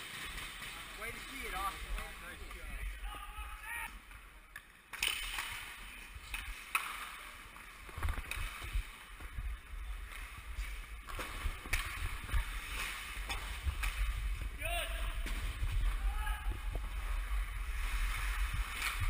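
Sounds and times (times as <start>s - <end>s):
skates scraping on ice: 0.0s - 2.9s, 5.0s - 19.0s.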